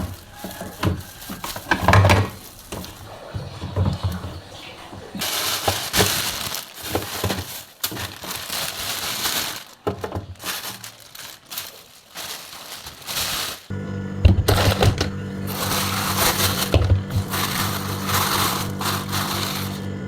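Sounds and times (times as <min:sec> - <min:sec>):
crinkling rustling handling noise: 0:00.0 - 0:20.0.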